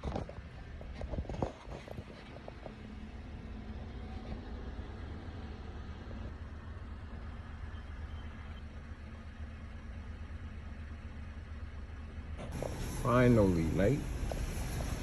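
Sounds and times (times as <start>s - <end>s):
car engine idling: 1.7s - 15.0s.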